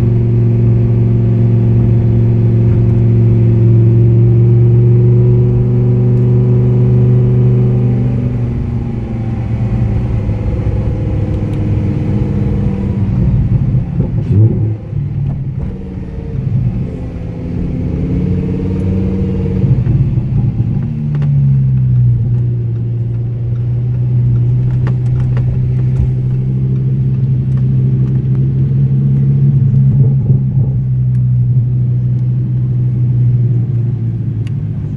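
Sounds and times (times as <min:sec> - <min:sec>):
car engine from inside cabin: 0:00.0 - 0:34.9.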